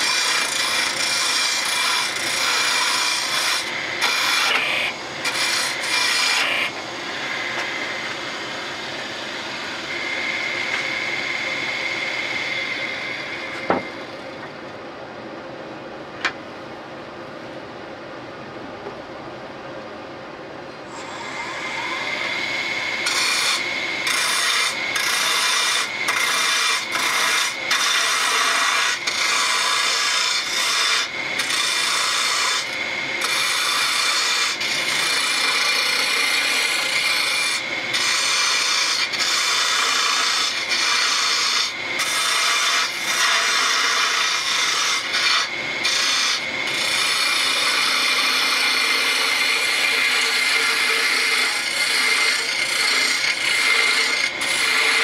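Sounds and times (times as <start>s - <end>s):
lathe tool cutting wood: 0.0s - 14.2s, 20.9s - 55.0s.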